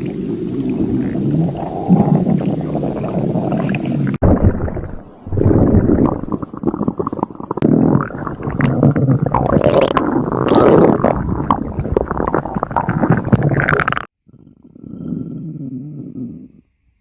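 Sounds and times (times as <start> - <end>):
stomach growling: 0.0 - 16.7.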